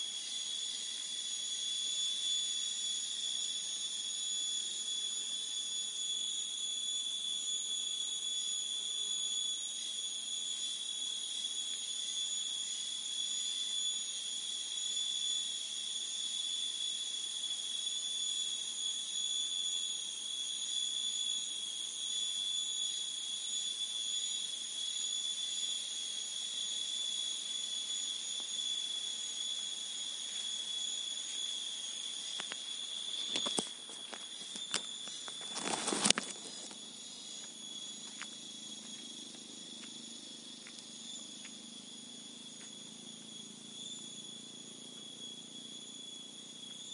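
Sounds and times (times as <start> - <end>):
cricket trilling: 0.0 - 46.9.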